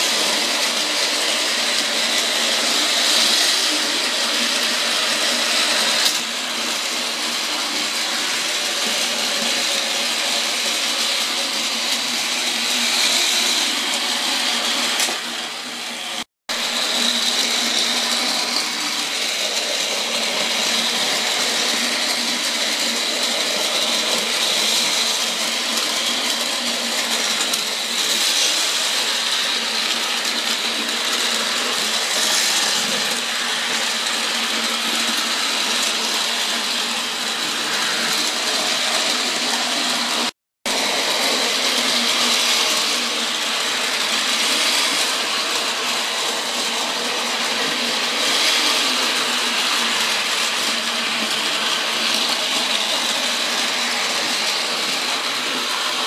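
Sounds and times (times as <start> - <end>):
toy train motors whirring: 0.0 - 56.0.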